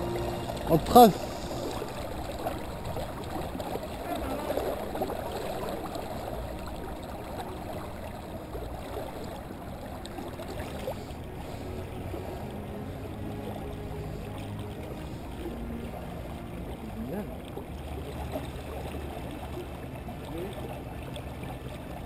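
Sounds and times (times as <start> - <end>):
water rushing along boat hull: 0.0 - 22.0.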